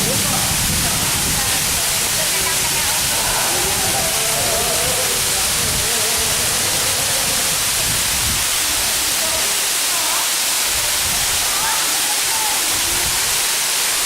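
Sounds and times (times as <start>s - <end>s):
faint voices: 0.0s - 13.9s
waterfall rushing: 0.0s - 14.0s.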